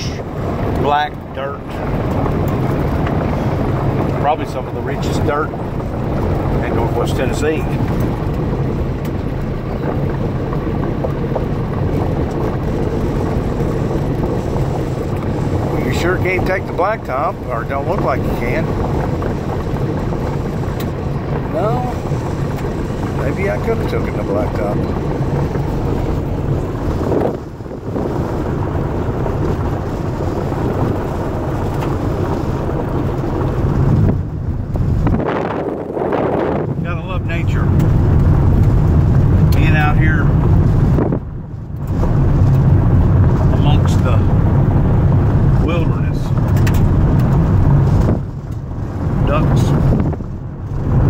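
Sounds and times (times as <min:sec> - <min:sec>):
gravel ticking under tyres: 0:00.0 - 0:51.0
vehicle rumbling on gravel road: 0:00.0 - 0:51.0
wind rushing over microphone: 0:00.0 - 0:51.0.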